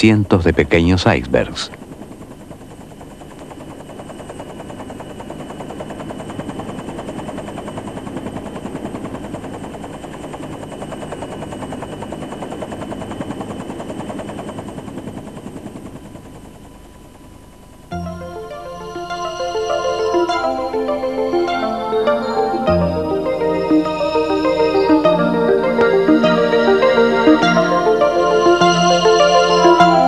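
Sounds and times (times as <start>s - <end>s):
helicopter rotor blades beating: 0.0s - 30.0s.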